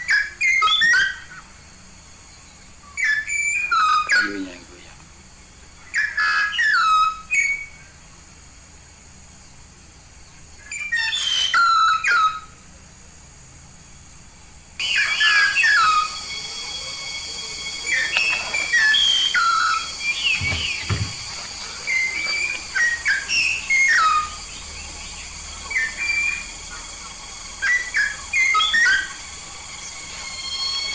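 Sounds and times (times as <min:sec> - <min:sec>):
myna whistled calls: 0:00.0 - 0:08.2, 0:10.2 - 0:12.8, 0:13.8 - 0:30.9
steady high hiss: 0:00.0 - 0:30.9.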